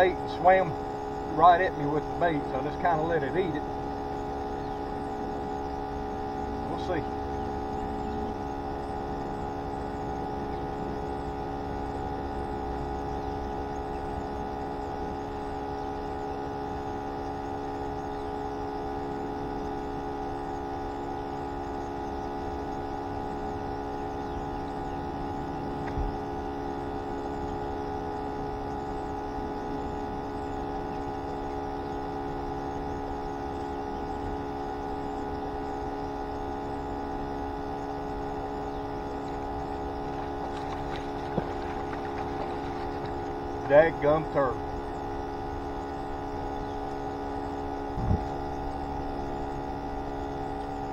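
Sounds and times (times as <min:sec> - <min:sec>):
aerator pump whining: 0:00.0 - 0:50.9.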